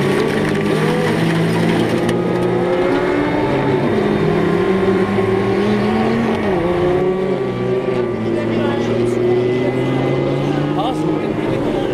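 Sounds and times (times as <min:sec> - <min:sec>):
racing car engines: 0:00.0 - 0:11.9.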